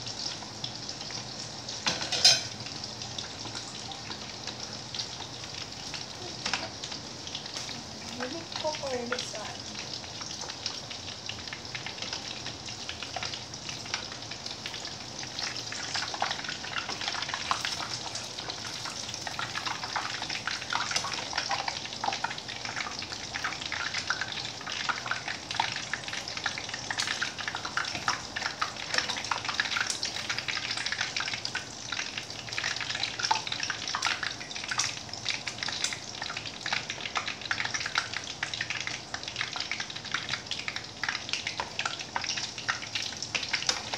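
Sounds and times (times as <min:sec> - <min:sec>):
meat sizzling in oil: 0:00.0 - 0:43.9.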